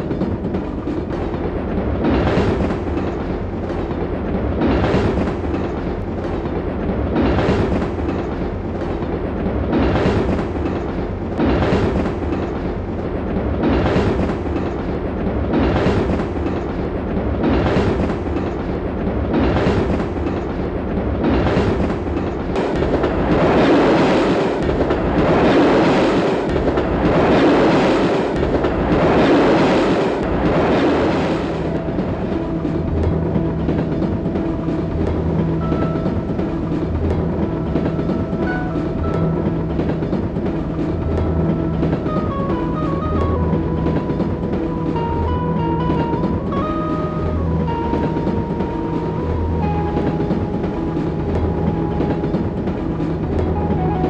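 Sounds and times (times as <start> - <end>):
train rumbling on rails: 0.0 - 54.0
wheels clattering over rail joints: 0.0 - 54.0.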